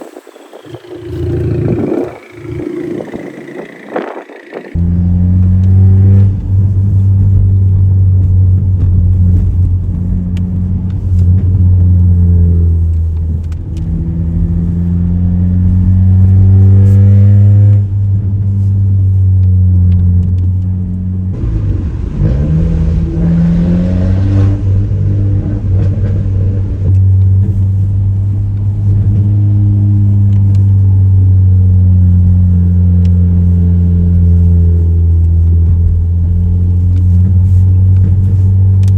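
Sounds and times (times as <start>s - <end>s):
loud droning car exhaust: 0.0s - 38.9s.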